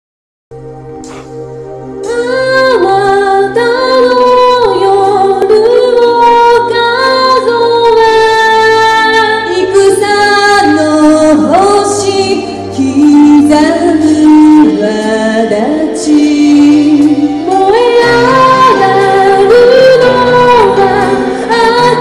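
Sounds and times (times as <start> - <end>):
instrumental accompaniment: 0.6 - 22.0
two women singing: 2.0 - 22.0.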